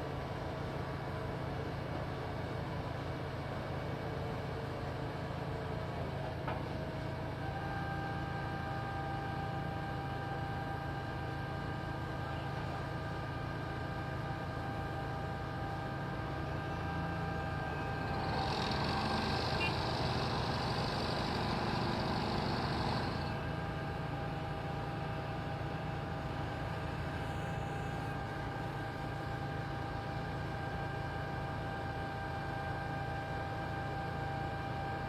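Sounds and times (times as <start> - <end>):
construction machine engine running: 0.0 - 35.0.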